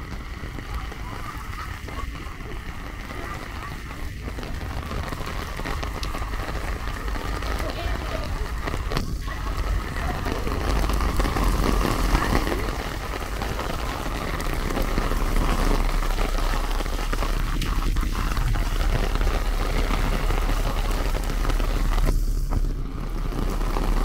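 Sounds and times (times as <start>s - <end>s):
heavy rain on pavement: 0.0s - 24.0s.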